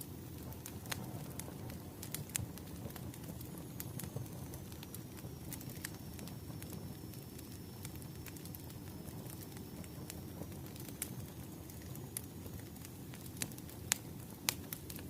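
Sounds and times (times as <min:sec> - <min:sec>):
firewood crackling: 0:00.0 - 0:15.0.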